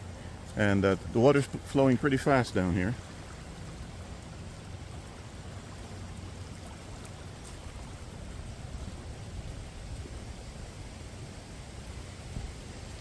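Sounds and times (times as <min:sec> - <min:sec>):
creek rushing: 0:00.0 - 0:13.0.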